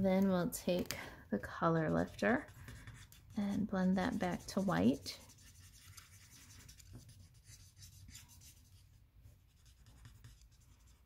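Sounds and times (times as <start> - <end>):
marker scratching on cardstock: 1.7 - 11.0.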